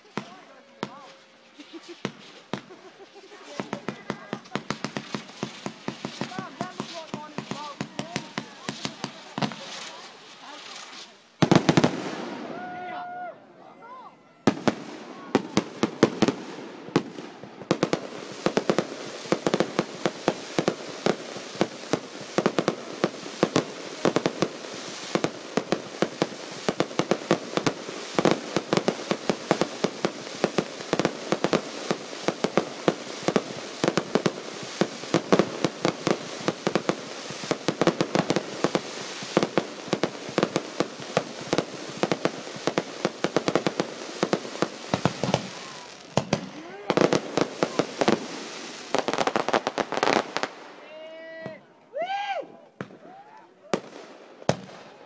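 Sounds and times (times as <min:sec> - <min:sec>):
fireworks popping and crackling: 0:00.0 - 0:13.2, 0:14.4 - 0:51.6, 0:52.7 - 0:55.0.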